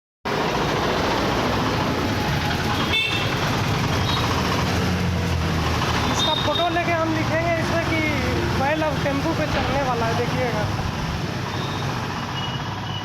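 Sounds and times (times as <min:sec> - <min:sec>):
roadside traffic noise: 0:00.3 - 0:13.0.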